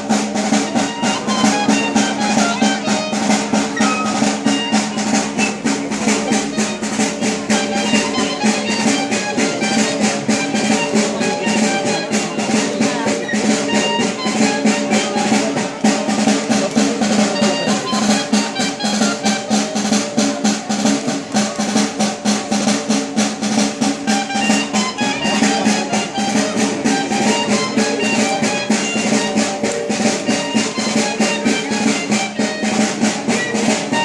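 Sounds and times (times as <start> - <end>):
drum beating fast rhythm: 0.0 - 34.0
folk dance music: 0.0 - 34.0.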